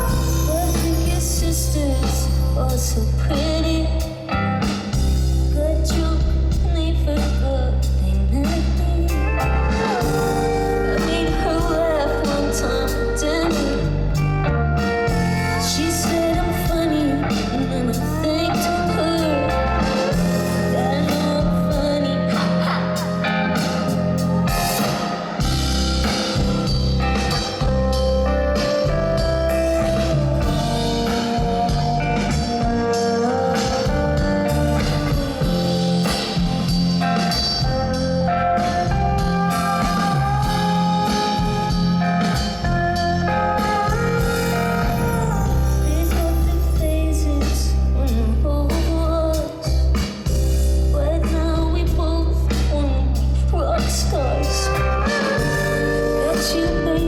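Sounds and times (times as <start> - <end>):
live band playing instrumental pop: 0.0 - 57.0.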